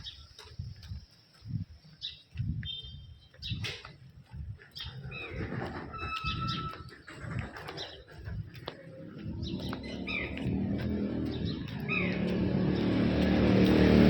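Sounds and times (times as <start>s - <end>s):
low thumps and rumbles: 0.0s - 14.0s.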